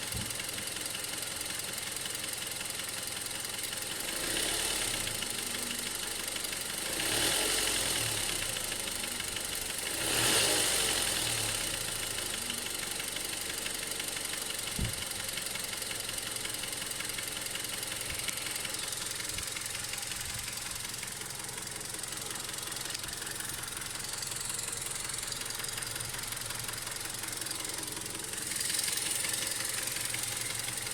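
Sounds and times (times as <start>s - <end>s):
car engine idling with knock: 0.0s - 30.9s.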